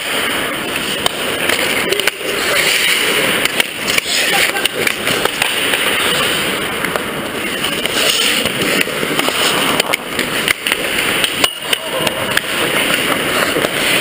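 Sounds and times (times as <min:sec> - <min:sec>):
hockey sticks and puck clacking: 0:00.0 - 0:14.0
skate blades scraping ice: 0:00.0 - 0:14.0.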